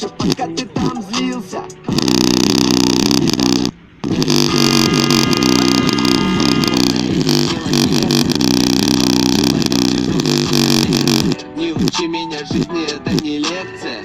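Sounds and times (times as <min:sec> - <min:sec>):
hip-hop beat with distorted bass: 0:00.0 - 0:14.0.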